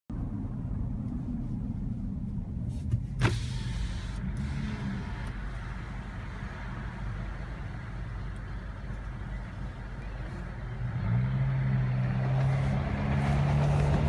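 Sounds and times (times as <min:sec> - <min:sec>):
car engine idling: 0:00.1 - 0:14.0.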